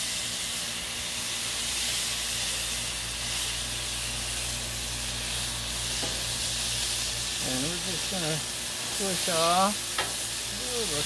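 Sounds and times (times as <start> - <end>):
burger patties sizzling on griddle: 0.0 - 11.0.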